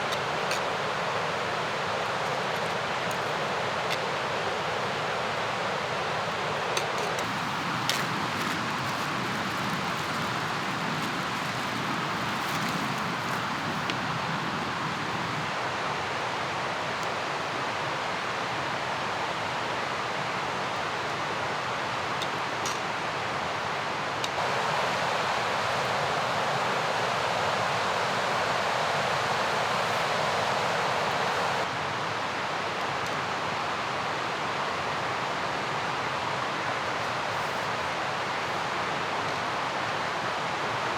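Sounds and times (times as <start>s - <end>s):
river rushing: 0.0s - 21.0s, 21.6s - 40.9s.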